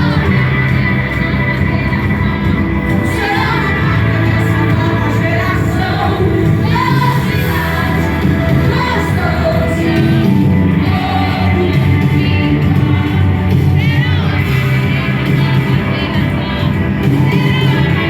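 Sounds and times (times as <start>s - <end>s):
band accompaniment with bass: 0.0s - 18.0s.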